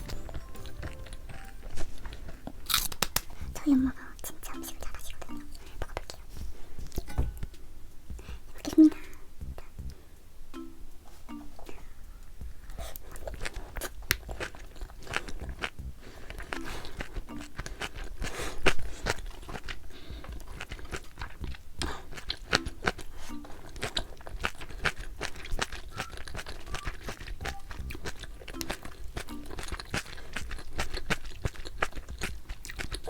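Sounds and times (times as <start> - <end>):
wet chewing with crunches: 0.0 - 7.1, 12.6 - 33.0
soft background music: 0.0 - 33.0.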